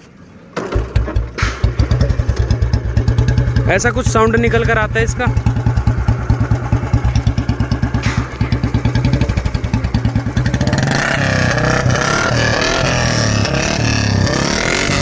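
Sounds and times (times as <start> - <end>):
motorcycle engine idling and revving: 0.6 - 15.0.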